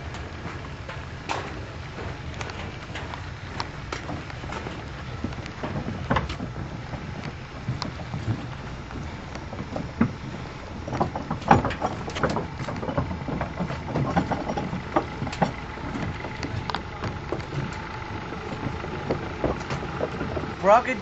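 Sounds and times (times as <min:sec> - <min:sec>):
footsteps on dock decking: 0:00.0 - 0:21.0.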